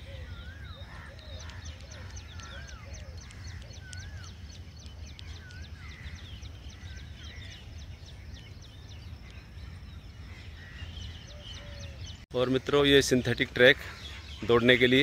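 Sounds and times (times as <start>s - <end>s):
high bird chirps: 0.0s - 15.0s.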